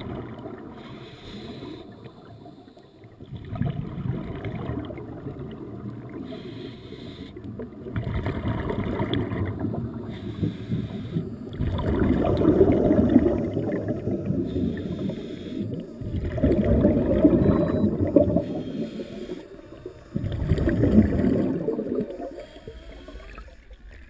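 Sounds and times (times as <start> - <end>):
underwater exhaust bubbles gurgling: 0.0 - 24.0.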